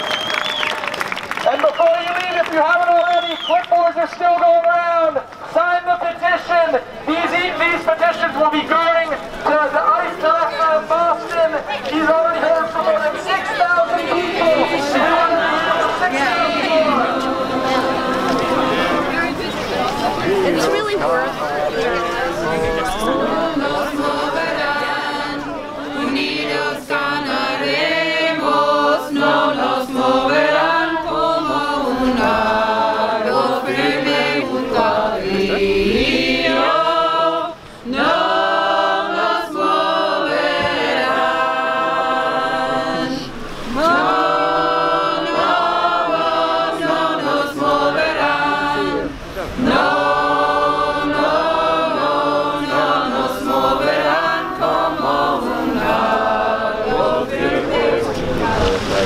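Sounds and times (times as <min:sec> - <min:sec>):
crowd singing together: 0:09.3 - 0:59.0.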